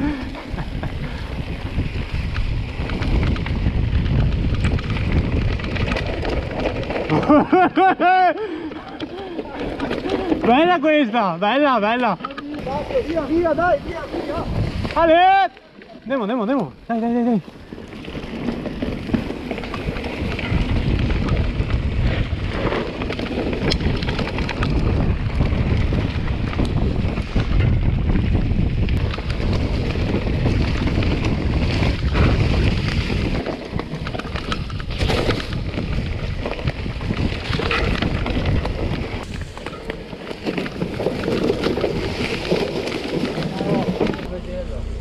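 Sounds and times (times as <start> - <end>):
wind buffeting microphone: 0.0 - 10.5, 12.5 - 15.4, 16.7 - 45.0
bike tyres crunching on trail: 0.0 - 45.0.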